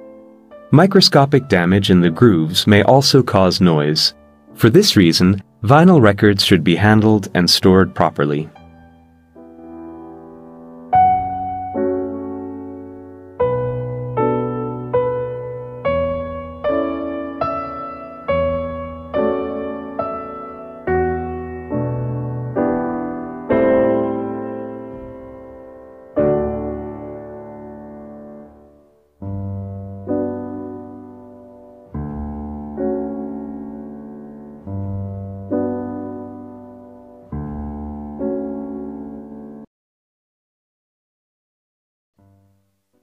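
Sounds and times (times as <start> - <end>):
slow piano chords: 0.0 - 39.7.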